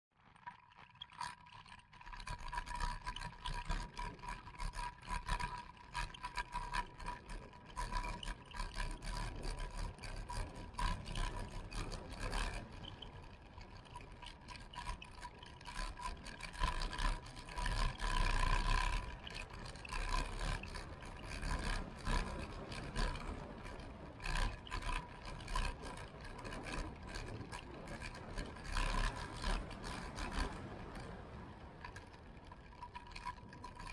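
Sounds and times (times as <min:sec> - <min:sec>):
bike clicks and rattles: 0:00.2 - 0:33.9
bike tyre rumble: 0:00.2 - 0:33.9.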